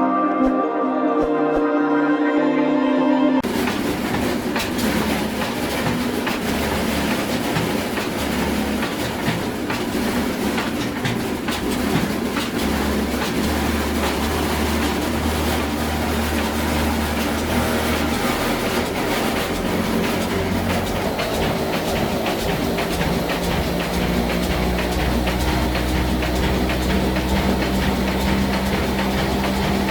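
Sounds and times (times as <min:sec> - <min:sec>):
diesel engine rumbling: 0:03.4 - 0:29.9
machinery rattling clatter: 0:03.4 - 0:29.9.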